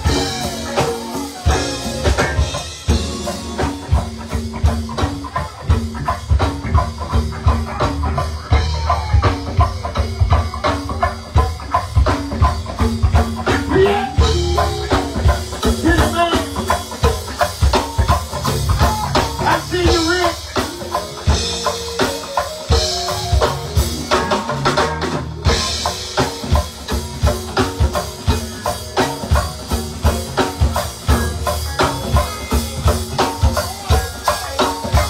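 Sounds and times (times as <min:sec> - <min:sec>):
congas: 0:00.0 - 0:35.0
drum kit: 0:00.0 - 0:35.0
heavy bass: 0:00.0 - 0:35.0
live band playing: 0:00.0 - 0:35.0.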